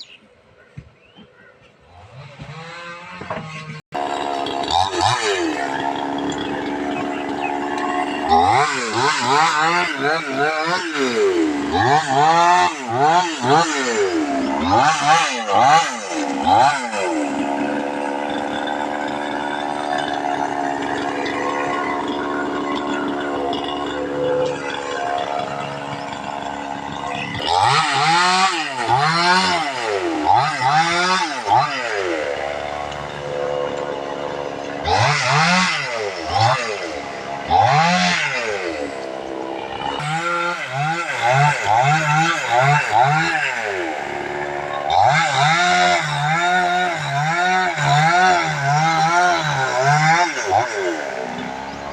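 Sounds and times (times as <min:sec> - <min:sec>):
tractor diesel engine revving: 0:01.9 - 0:51.9.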